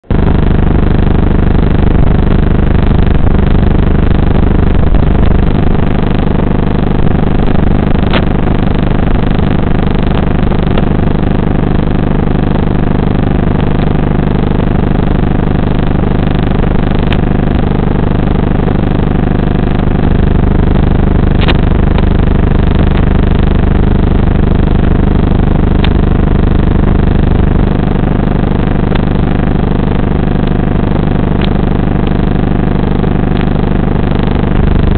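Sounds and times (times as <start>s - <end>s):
electrical buzz with low hum: 0.0s - 34.9s.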